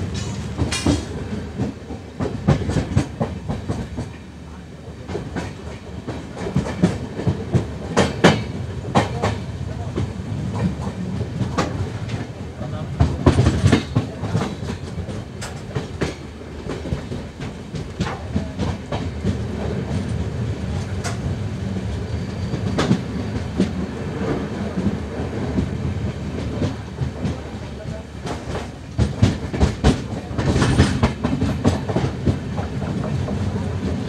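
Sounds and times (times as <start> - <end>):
wheels clacking over rail joints: 0.0 - 4.2, 5.1 - 21.4, 22.2 - 34.0
train rumbling at speed: 0.0 - 34.0.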